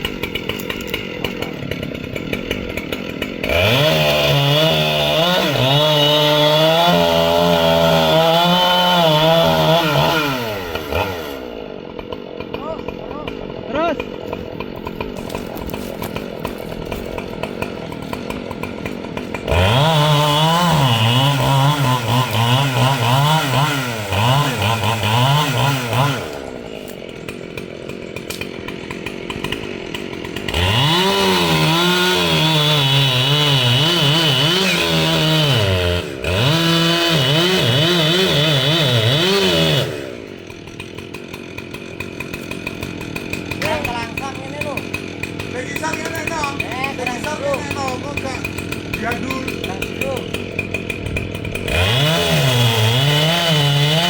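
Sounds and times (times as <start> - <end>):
two-stroke chainsaw revving: 0.0 - 54.0.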